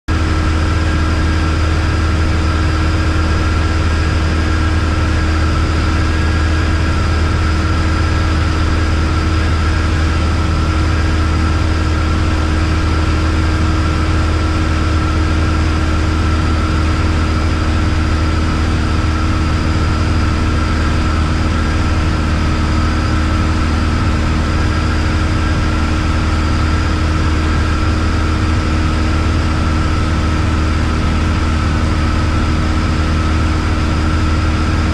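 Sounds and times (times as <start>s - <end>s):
propeller aircraft engine drone: 0.1s - 34.9s.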